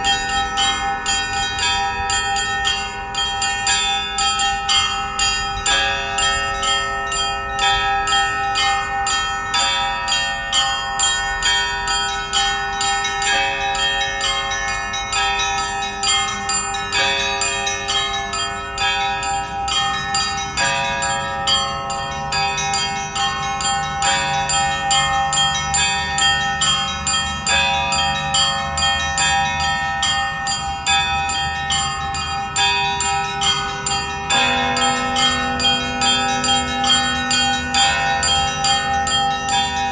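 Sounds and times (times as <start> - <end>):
church bells ringing: 0.0 - 39.9
deep bell: 0.0 - 39.9.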